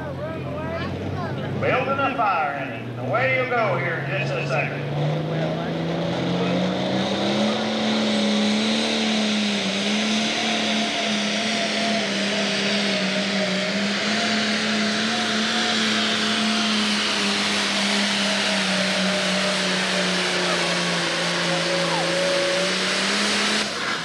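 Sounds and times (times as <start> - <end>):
diesel engine at full load: 0.0 - 24.0.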